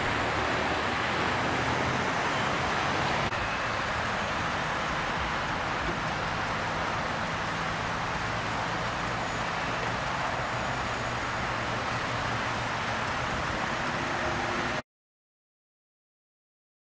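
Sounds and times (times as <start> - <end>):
freeway traffic roar: 0.0 - 14.8
low engine hum: 0.0 - 14.8.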